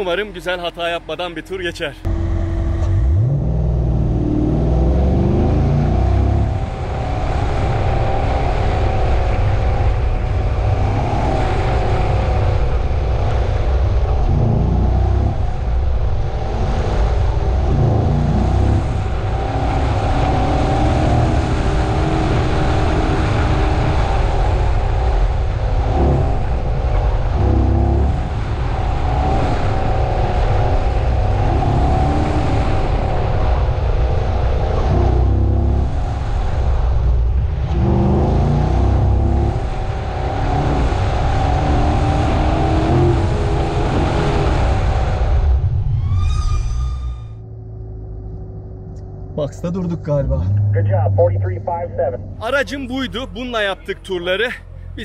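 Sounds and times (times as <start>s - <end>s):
car engine revving: 0.0s - 45.8s, 47.4s - 55.0s.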